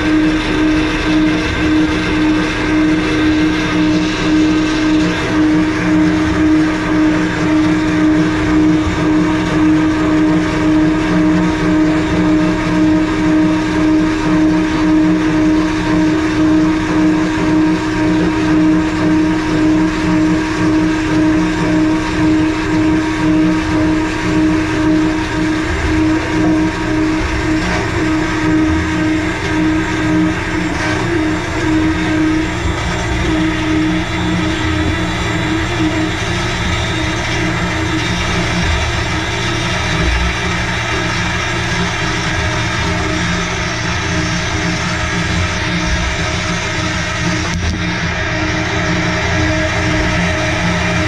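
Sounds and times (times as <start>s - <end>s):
anchor windlass motor whine: 0.0s - 51.0s.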